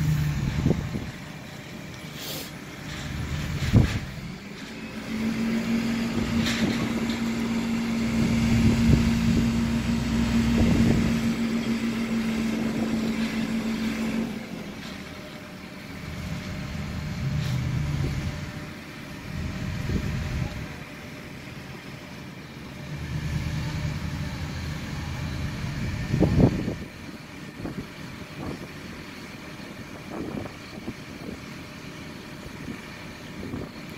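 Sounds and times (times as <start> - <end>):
truck engine running with whine: 0.0 - 33.9.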